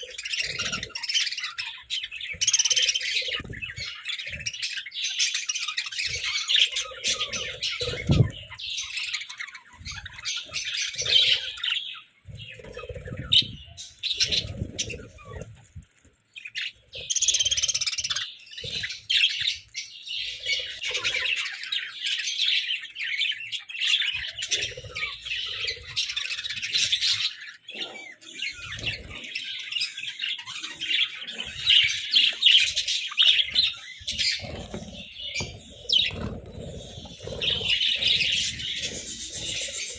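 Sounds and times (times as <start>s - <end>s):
budgerigars chattering: 0.0s - 15.5s, 16.5s - 39.9s.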